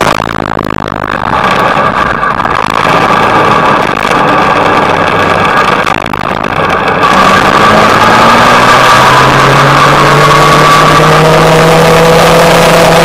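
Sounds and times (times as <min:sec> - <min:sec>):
motorcycle engine at low revs: 0:00.0 - 0:13.0
road noise: 0:00.0 - 0:13.0.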